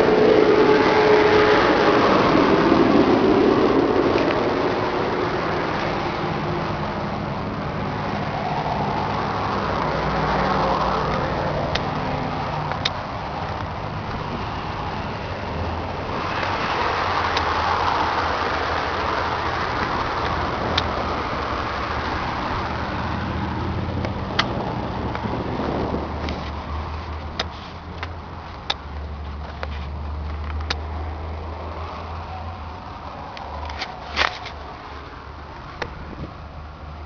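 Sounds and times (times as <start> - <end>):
road noise: 0.0 - 37.0
vehicle engine running: 0.0 - 37.0.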